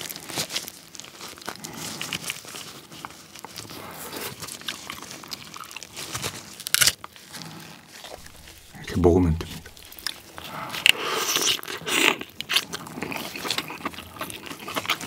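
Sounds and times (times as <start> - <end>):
crab shell crackling and crunching: 0.0 - 8.8, 9.4 - 15.0.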